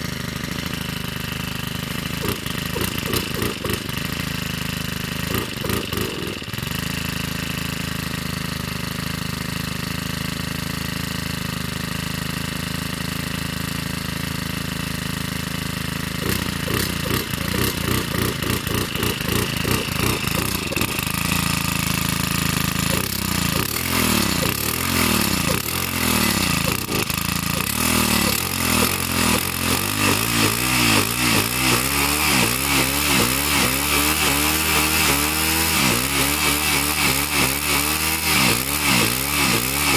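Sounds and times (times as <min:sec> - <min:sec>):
string trimmer engine revving: 0:00.0 - 0:39.9.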